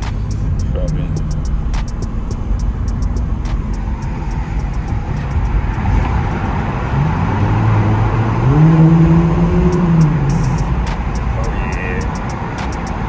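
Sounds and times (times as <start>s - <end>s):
car exhaust drone: 0.0s - 13.0s.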